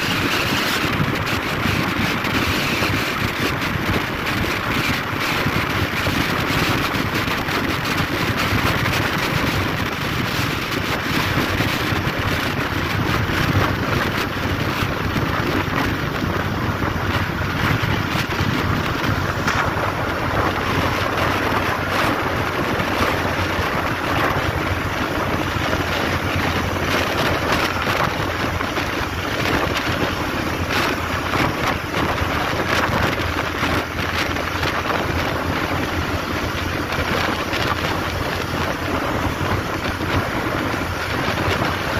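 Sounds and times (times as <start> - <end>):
vehicle road noise at speed: 0.0 - 41.9
wind rushing over microphone: 0.0 - 41.9.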